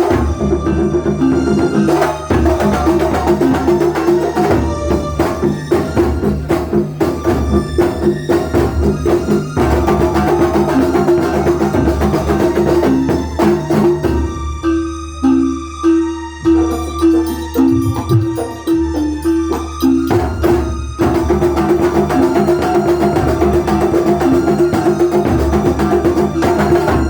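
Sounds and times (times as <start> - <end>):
rapid drumming: 0.0 - 14.5, 16.5 - 27.0
pitched melodic tones: 0.0 - 27.0.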